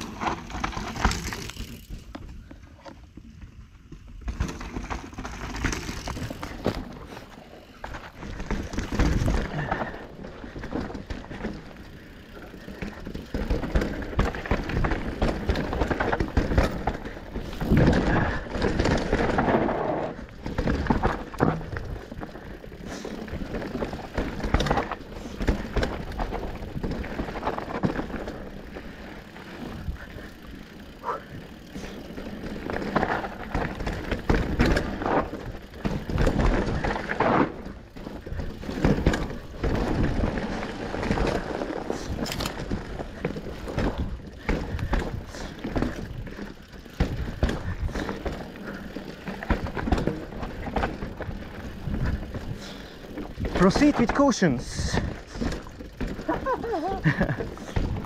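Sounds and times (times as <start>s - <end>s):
bike knocking and rattling: 0.0s - 58.0s
bike tyres rolling over dirt: 0.0s - 58.0s.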